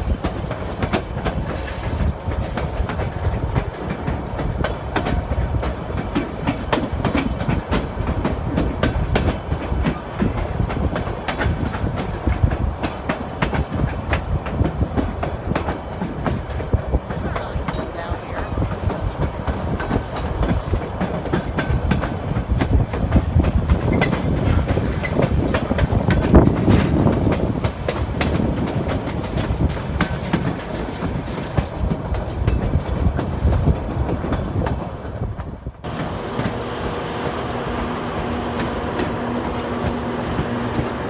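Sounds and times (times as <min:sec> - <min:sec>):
train rumbling: 0:00.0 - 0:41.0
wheels clacking on rails: 0:00.0 - 0:41.0.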